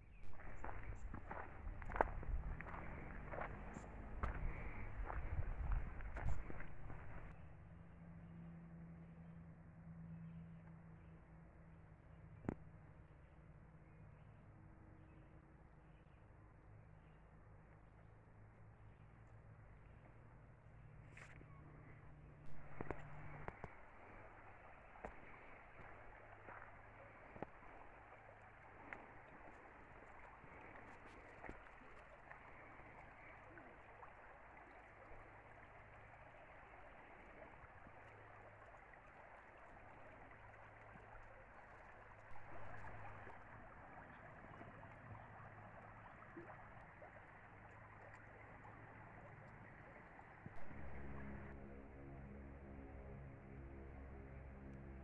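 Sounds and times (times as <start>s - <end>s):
creek running over gravel: 0.0s - 7.6s, 17.7s - 55.0s.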